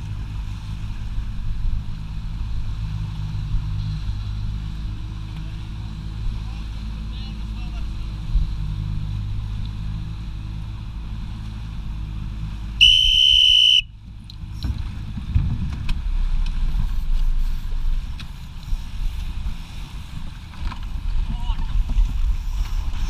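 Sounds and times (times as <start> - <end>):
outboard motor running: 0.0 - 23.0
water splashing against hull: 0.0 - 23.0
wind: 0.0 - 23.0.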